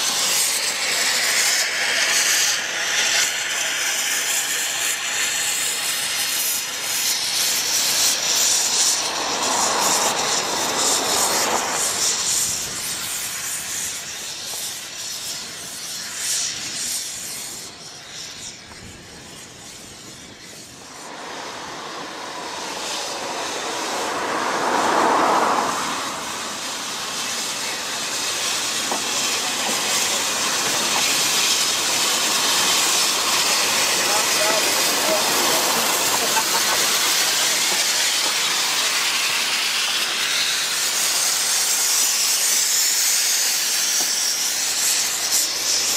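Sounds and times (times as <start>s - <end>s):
steam hissing from locomotives: 0.0s - 45.9s
wheels running on rails: 0.0s - 45.9s.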